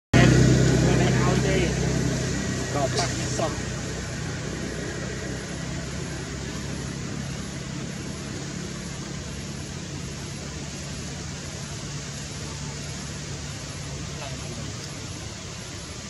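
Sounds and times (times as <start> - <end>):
low engine hum: 0.1 - 16.0
even hiss: 0.2 - 16.0.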